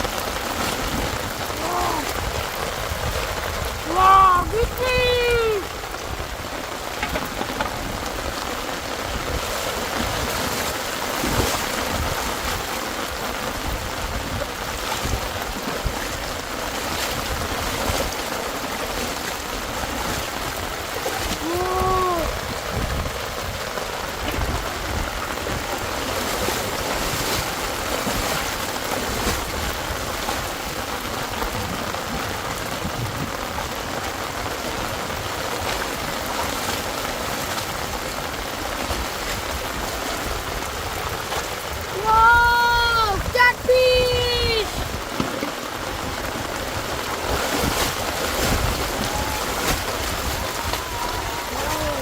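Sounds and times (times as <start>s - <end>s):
rain and running water: 0.0s - 52.0s.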